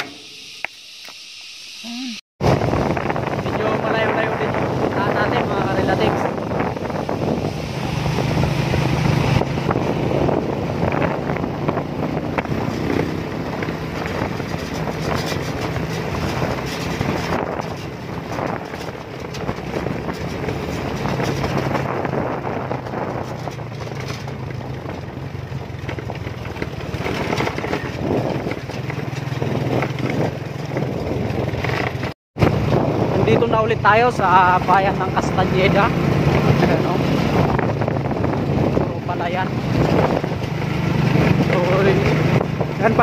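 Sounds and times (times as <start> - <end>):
motorcycle engine running: 1.8 - 43.0
wind buffeting microphone: 2.4 - 43.0.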